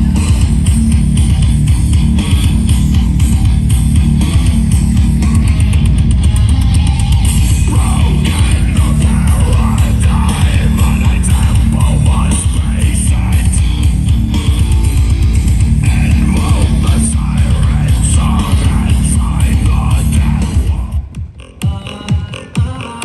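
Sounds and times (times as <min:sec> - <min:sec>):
loud rock music: 0:00.0 - 0:23.0.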